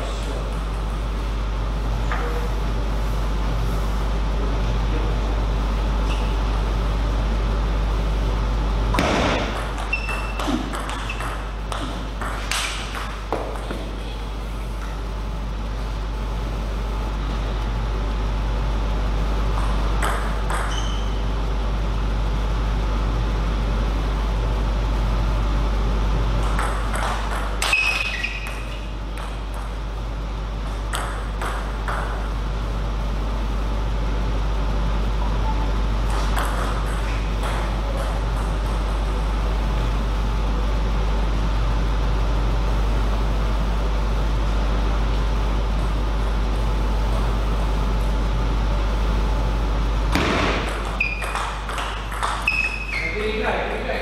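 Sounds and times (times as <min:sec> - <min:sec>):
low hall hum: 0:00.0 - 0:54.0.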